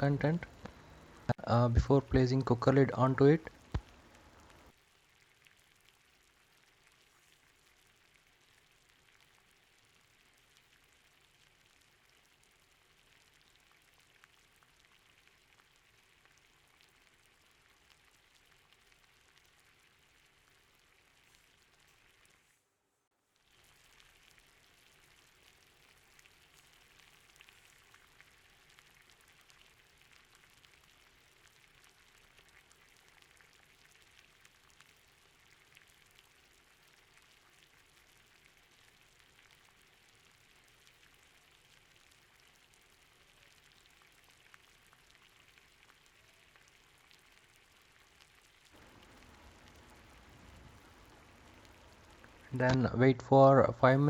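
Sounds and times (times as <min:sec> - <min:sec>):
faint crackling sizzle of pressure cooker: 0:00.0 - 0:54.0.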